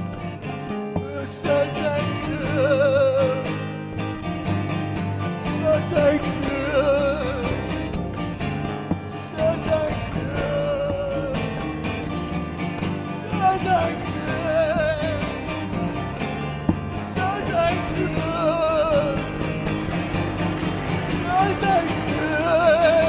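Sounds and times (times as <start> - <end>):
acoustic guitar accompaniment: 0.0 - 23.0.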